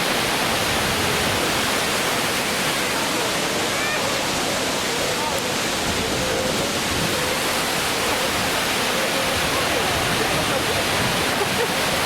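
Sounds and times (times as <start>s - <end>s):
waterfall rushing: 0.0s - 12.0s
faint voices: 0.2s - 12.0s.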